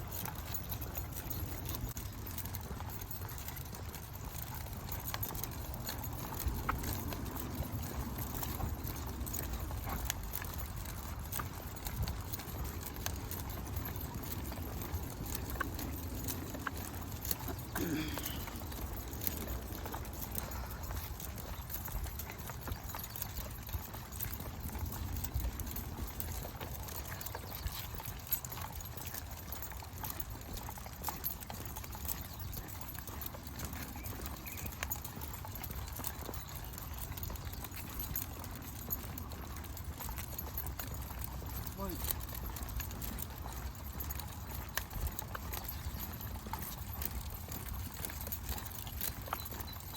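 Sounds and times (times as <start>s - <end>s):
dog tags jingling: 0.0s - 49.9s
footsteps on a trail: 0.0s - 49.9s.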